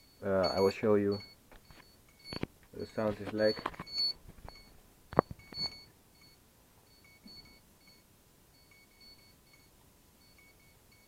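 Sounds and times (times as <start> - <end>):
faint high electronic beeping: 0.0 - 11.0.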